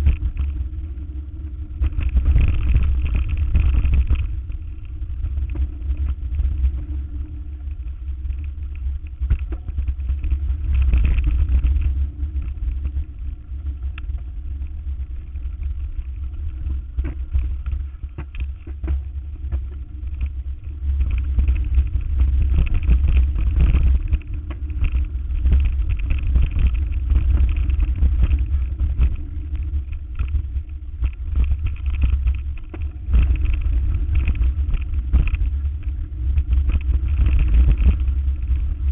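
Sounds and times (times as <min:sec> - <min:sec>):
vehicle driving rumble: 0:00.0 - 0:38.9.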